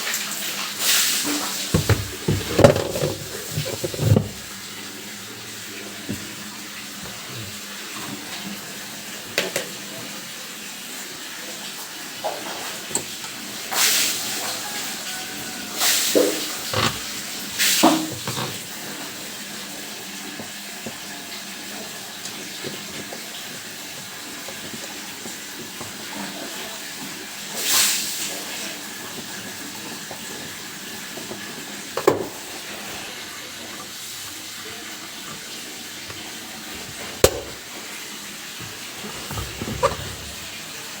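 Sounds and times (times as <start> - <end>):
water running: 0.0 - 41.0.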